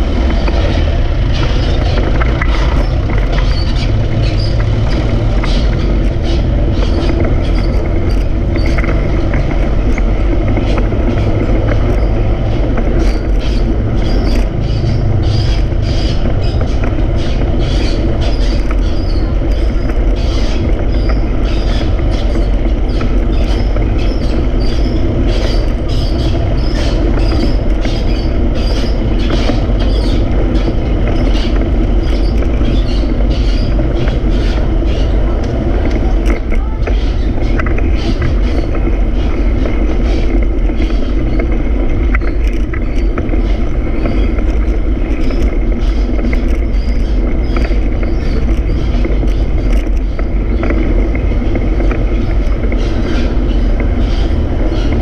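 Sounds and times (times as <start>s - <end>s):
bike rattling clicks: 0.0s - 55.0s
wind buffeting microphone: 0.0s - 55.0s.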